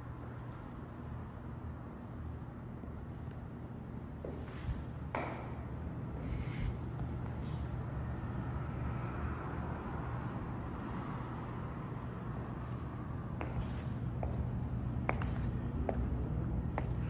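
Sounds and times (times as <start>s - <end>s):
road traffic rumble: 0.1s - 17.0s.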